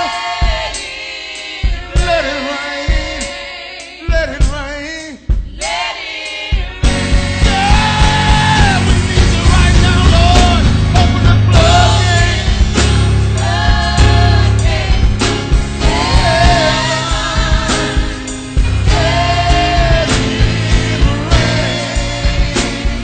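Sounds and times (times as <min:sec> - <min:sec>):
band accompaniment: 0:00.0 - 0:23.0
choir singing gospel: 0:00.0 - 0:23.0.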